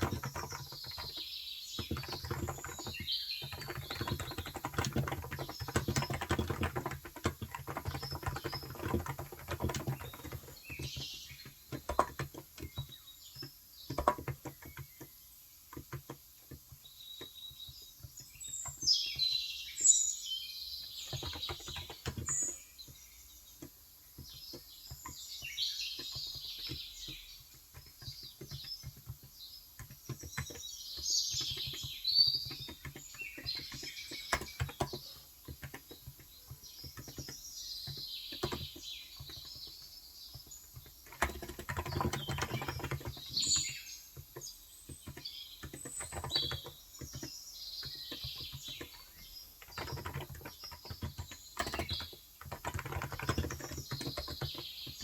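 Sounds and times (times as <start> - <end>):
soft keyboard keystrokes: 0.0 - 15.1, 21.0 - 55.0
birds chirping: 0.0 - 55.0.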